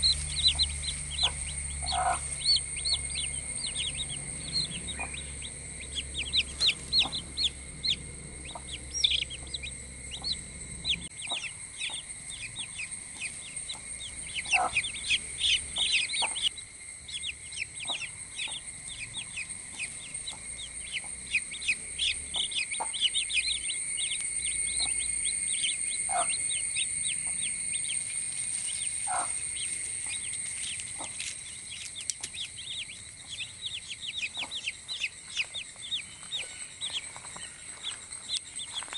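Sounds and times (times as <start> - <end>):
hen clucking: 0.0 - 28.0, 28.6 - 37.1
chicks peeping: 0.0 - 38.9
steady high-pitched whine: 0.0 - 38.9.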